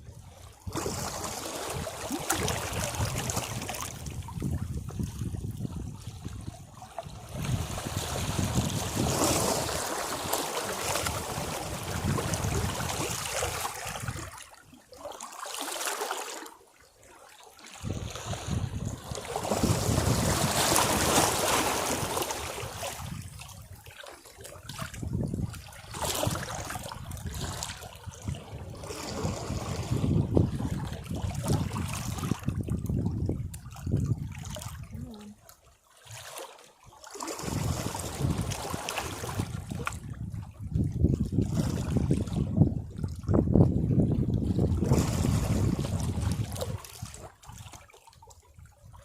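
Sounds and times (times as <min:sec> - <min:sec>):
sea waves breaking against rocks: 0:00.1 - 0:35.4, 0:36.1 - 0:47.8.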